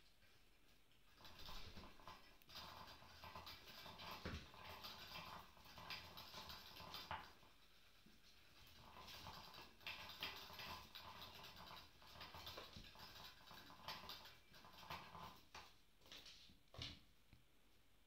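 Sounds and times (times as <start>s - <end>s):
kittens' paws scratching floor: 0.0s - 17.5s.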